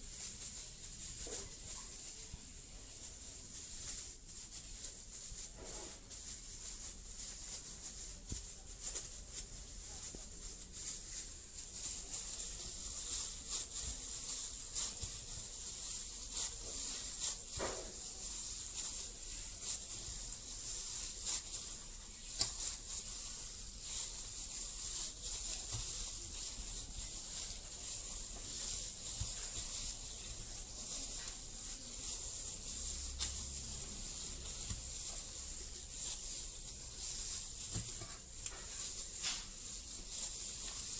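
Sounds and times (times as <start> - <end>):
hand kneading dough in bowl: 0.0 - 40.9.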